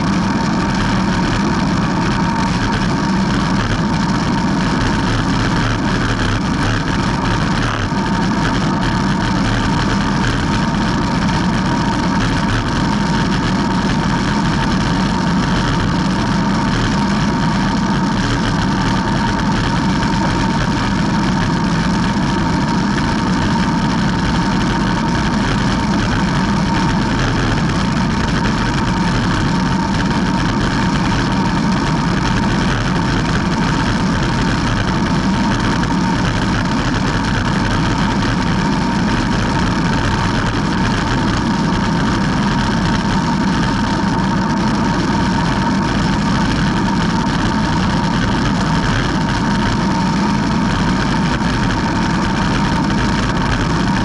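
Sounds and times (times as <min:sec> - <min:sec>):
bike tyre noise on asphalt: 0:00.0 - 0:54.0
low hum: 0:00.0 - 0:54.0
thin steady whine: 0:00.0 - 0:54.0.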